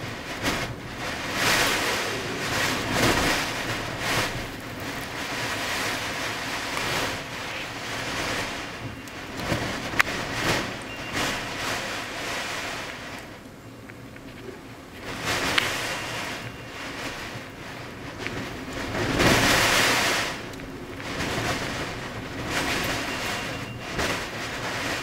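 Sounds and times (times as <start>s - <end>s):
blizzard wind gusting: 0.0s - 25.0s.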